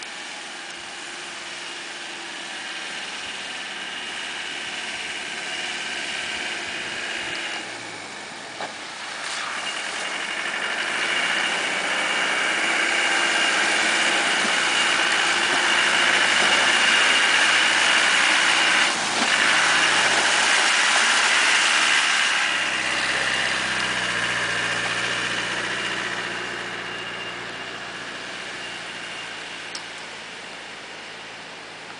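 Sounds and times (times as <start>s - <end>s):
vehicle engine at low revs: 0.0s - 31.9s
water splashing around wheels: 0.0s - 31.9s.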